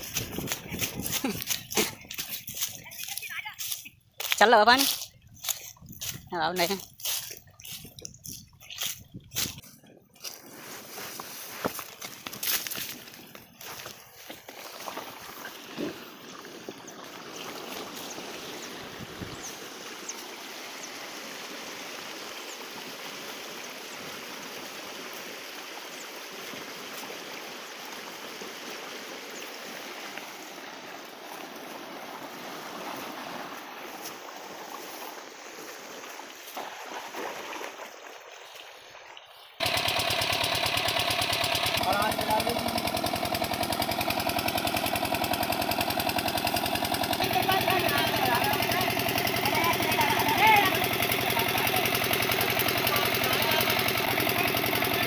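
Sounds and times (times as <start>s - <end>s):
diesel water pump engine running: 0.0s - 35.5s, 39.5s - 55.0s
running water rushing: 0.0s - 55.0s.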